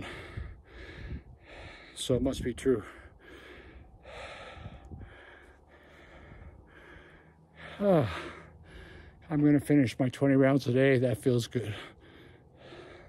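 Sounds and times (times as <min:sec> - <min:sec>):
man breathing hard: 0:00.0 - 0:09.3, 0:11.6 - 0:13.0.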